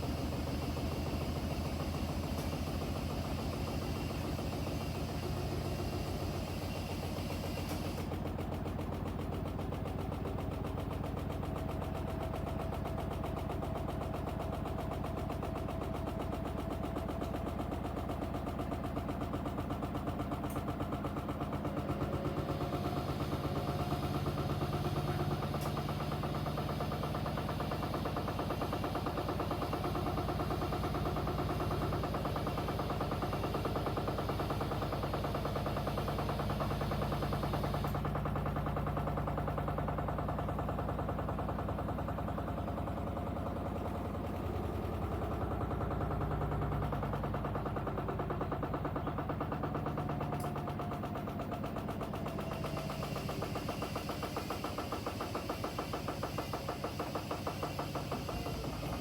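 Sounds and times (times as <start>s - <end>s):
washing machines humming and pulsing: 0.0s - 59.0s.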